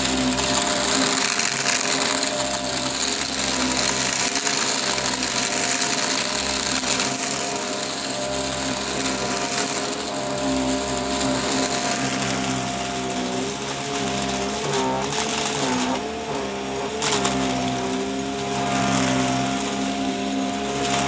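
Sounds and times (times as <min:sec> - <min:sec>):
debris crackling in vacuum: 0:00.0 - 0:21.0
vacuum cleaner running: 0:00.0 - 0:21.0.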